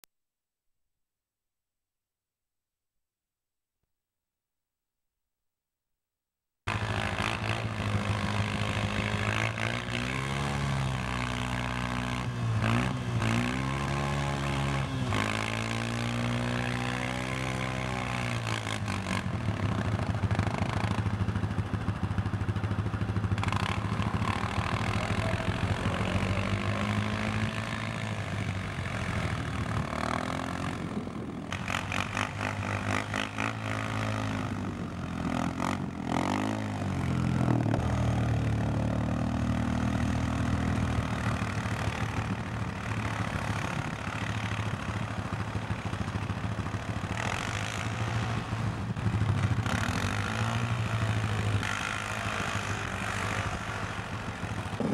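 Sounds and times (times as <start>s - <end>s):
engine revving: 6.7s - 54.9s.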